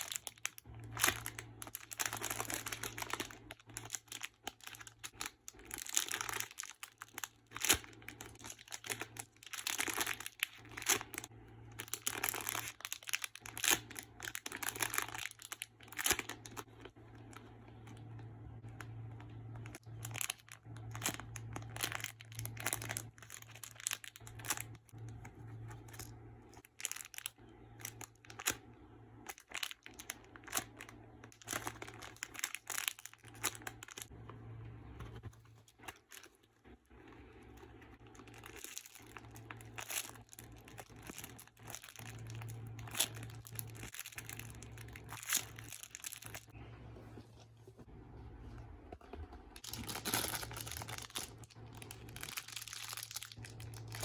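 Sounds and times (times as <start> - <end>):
plastic packaging crinkling: 0.0 - 34.2, 35.0 - 46.6, 49.0 - 54.0.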